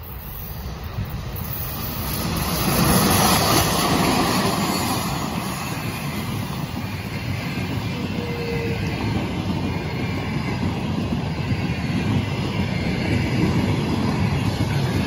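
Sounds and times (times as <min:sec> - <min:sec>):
electric locomotive passing: 0:00.0 - 0:15.0
rumble of train coaches passing: 0:00.0 - 0:15.0.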